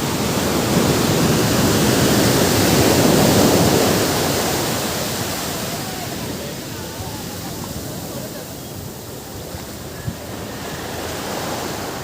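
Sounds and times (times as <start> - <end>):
ocean waves on a beach: 0.0 - 12.0.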